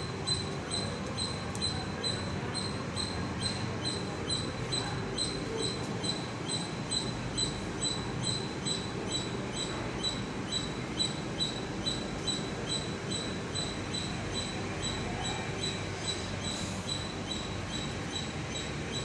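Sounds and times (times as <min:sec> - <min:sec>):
high-pitched machine chirp: 0:00.2 - 0:19.0.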